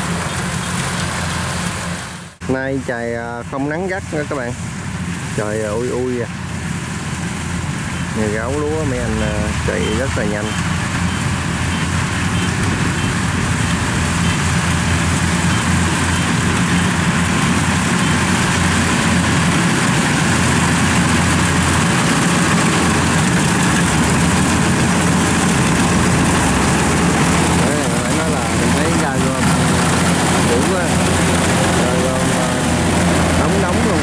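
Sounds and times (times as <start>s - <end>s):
combine harvester droning: 0.0s - 34.0s.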